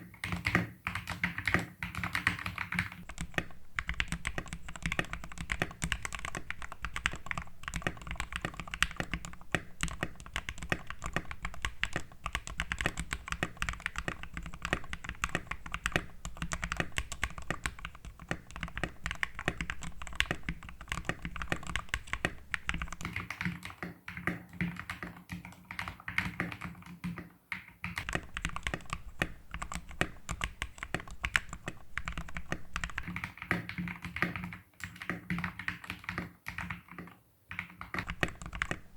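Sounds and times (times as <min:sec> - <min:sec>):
mechanical keyboard typing: 0:00.1 - 0:38.9.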